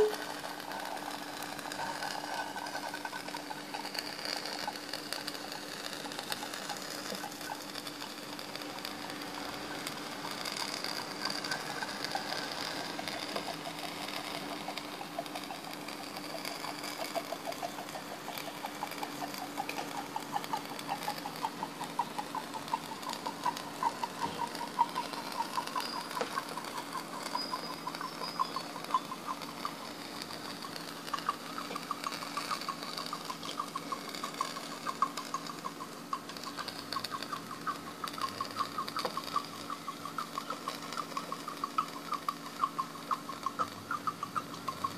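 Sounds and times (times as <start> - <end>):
pop-pop boat engine popping: 0.0 - 44.9.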